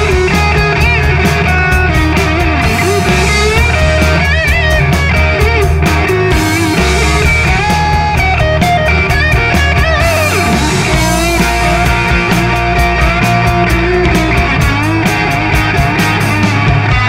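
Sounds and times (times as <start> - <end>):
electric guitar lead: 0.0 - 17.0
rock band playing: 0.0 - 17.0.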